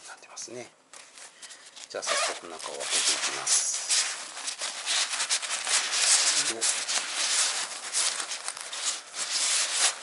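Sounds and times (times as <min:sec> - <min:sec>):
nylon fabric rustling and crinkling: 0:00.9 - 0:10.0.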